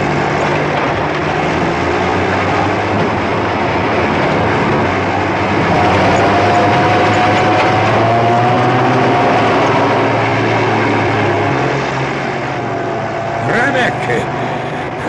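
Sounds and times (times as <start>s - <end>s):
car engine: 0.0s - 15.0s
propeller plane engine drone: 0.0s - 15.0s.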